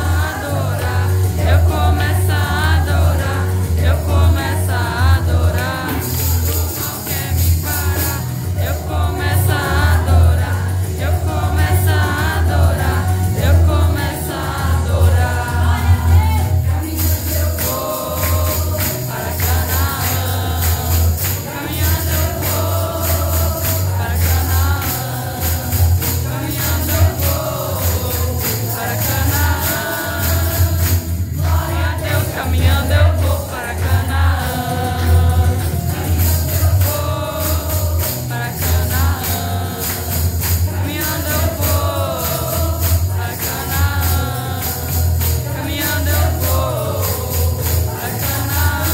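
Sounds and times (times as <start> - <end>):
instrumental accompaniment with bass line: 0.0 - 48.9
jingling percussion: 0.0 - 48.9
women's choir singing: 0.0 - 48.9.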